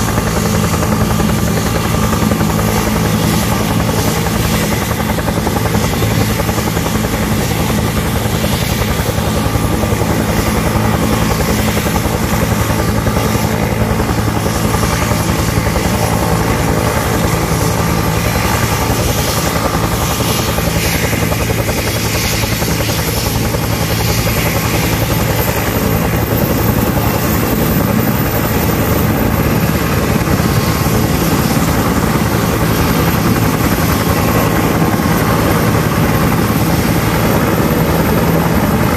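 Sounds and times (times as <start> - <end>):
helicopter rotors chopping: 0.0 - 38.9
high turbine whine: 0.0 - 38.9.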